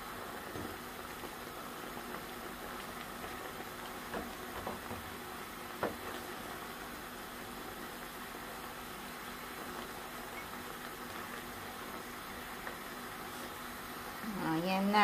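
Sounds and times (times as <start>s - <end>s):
pot boiling and bubbling: 0.0s - 15.0s.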